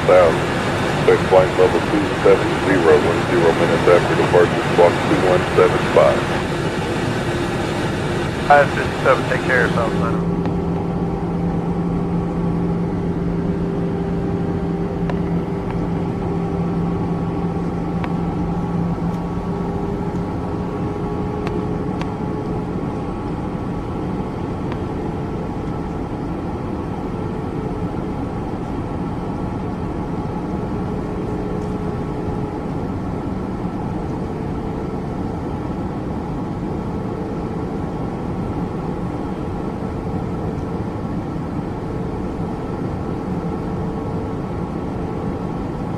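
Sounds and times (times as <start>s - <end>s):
jet engines rushing in flight: 0.0s - 45.9s
steady hum tones: 0.0s - 45.9s.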